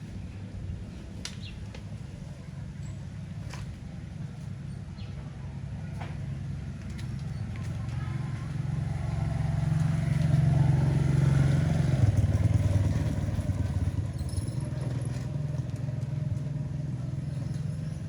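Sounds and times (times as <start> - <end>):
motor vehicle engine running: 0.0 - 18.0.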